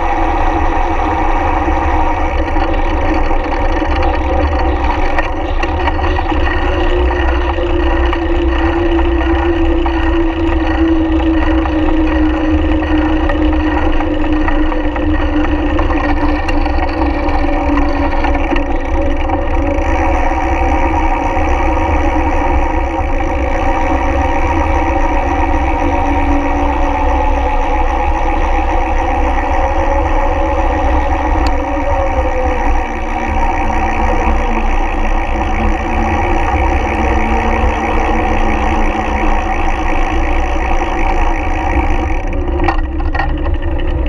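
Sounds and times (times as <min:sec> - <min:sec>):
droning hum of bicycle tyres: 0:00.0 - 0:44.0
wind rumble on microphone: 0:00.0 - 0:44.0.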